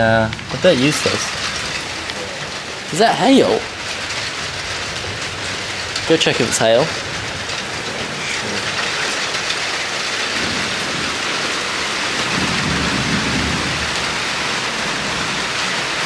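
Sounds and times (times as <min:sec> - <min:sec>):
heavy rain pouring: 0:00.0 - 0:16.0
low thunder rumble: 0:00.0 - 0:16.0.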